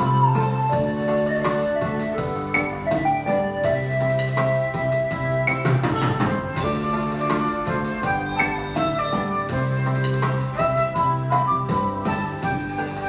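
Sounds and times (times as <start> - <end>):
held bass notes: 0.0 - 13.0
keyboard melody: 0.0 - 13.0
steady drum rhythm: 0.0 - 13.0.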